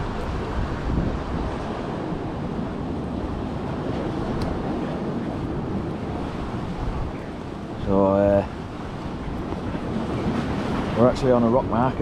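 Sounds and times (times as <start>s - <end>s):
sea surf rushing: 0.0s - 12.0s
wind buffeting microphone: 0.0s - 12.0s.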